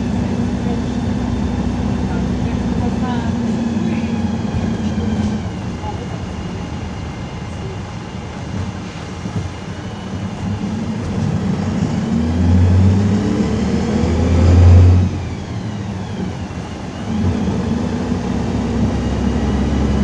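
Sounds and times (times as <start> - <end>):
bus engine accelerating: 0.0 - 20.0.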